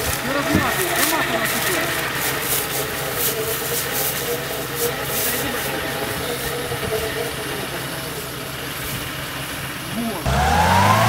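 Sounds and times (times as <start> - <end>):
scratchy hiss: 0.0 - 9.4
vehicle engine idling low: 0.0 - 11.0.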